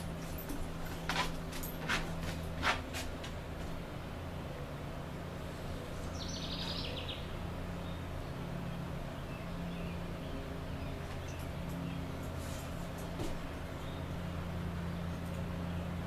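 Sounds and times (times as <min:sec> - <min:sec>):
low outdoor background hum: 0:00.0 - 0:16.0.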